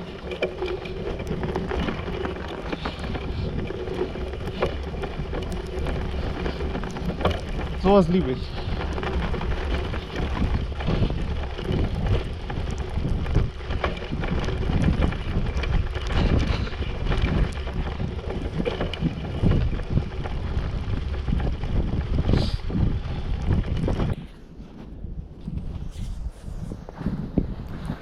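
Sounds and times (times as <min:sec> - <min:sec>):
bicycle rumble and knocks: 0:00.0 - 0:24.3
wind buffeting microphone: 0:00.0 - 0:28.0.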